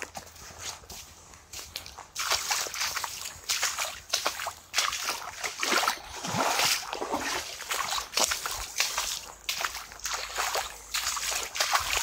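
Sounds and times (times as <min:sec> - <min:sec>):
footsteps wading through water: 0:00.0 - 0:12.0
water sloshing and splashing: 0:02.2 - 0:12.0.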